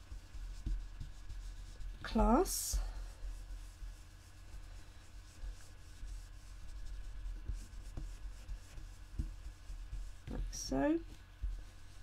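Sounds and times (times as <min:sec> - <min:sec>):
brush rubbing on paper: 0:00.0 - 0:12.0.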